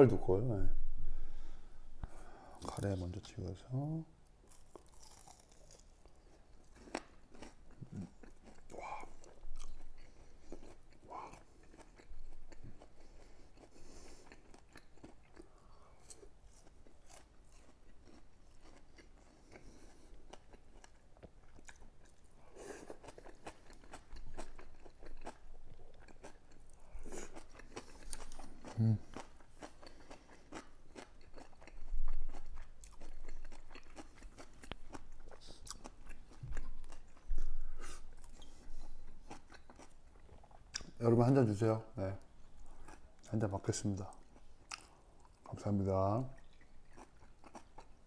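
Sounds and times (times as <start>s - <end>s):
person chewing crunchy breaded cutlet: 4.2s - 41.0s, 42.2s - 45.5s, 46.4s - 48.0s.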